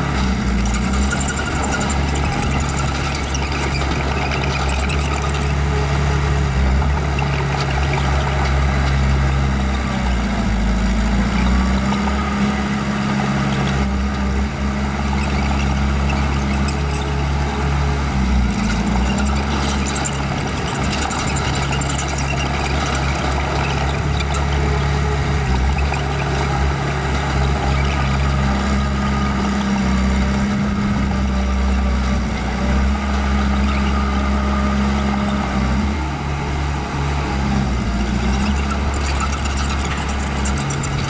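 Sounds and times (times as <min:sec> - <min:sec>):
bulldozer diesel engine running: 0:00.0 - 0:41.0.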